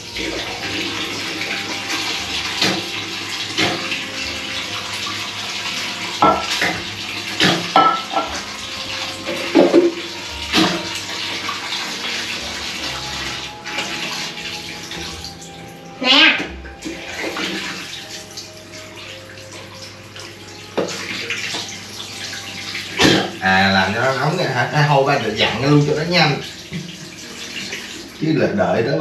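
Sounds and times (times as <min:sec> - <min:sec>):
tap running into sink: 0:00.1 - 0:15.4, 0:16.4 - 0:28.2.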